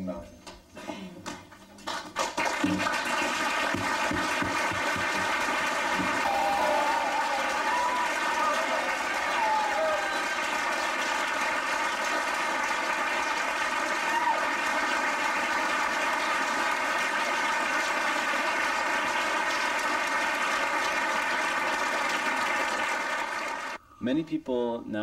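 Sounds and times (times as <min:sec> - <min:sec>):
audience applauding: 0:01.5 - 0:23.8.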